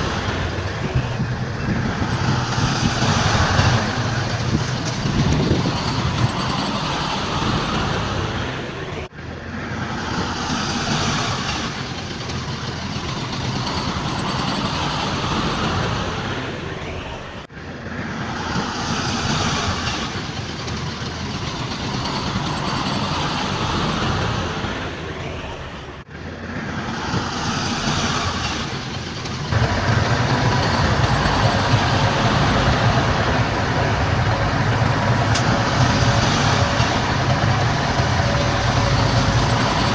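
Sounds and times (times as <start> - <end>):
deeper louder engine: 0.0 - 39.9
diesel engines of heavy machines: 0.0 - 39.9.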